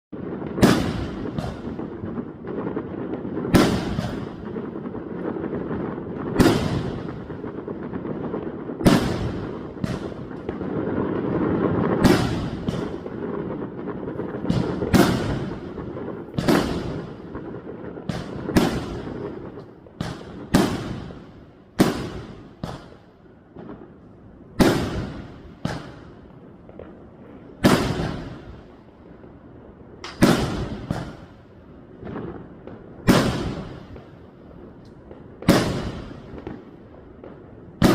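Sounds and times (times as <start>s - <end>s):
fireworks sharp bangs with echo: 0.2s - 29.3s, 30.0s - 37.9s
rumble of explosions: 0.2s - 37.9s.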